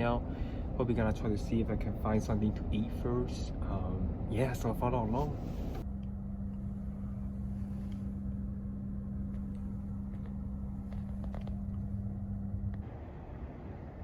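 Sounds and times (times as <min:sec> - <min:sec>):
car engine and road rumble: 0:00.0 - 0:14.0
steady hum: 0:00.0 - 0:14.0.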